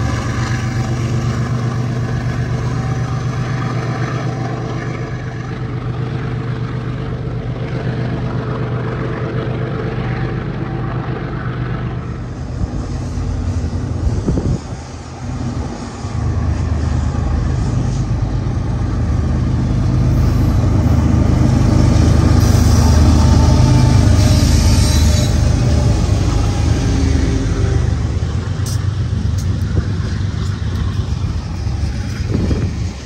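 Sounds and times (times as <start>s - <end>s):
diesel locomotives droning: 0.0s - 33.0s.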